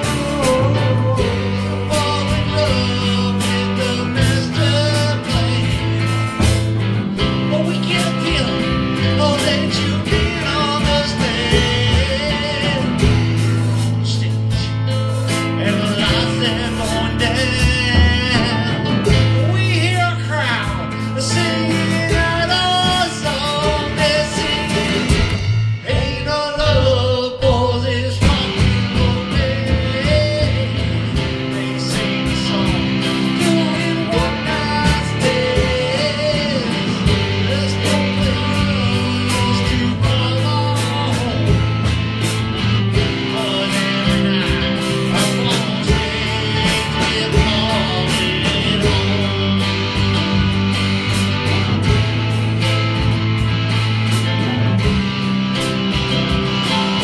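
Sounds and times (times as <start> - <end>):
bass: 0.0 - 57.0
guitar: 0.0 - 57.0
rock song with singing: 0.0 - 57.0
steady drum beat: 0.0 - 57.0.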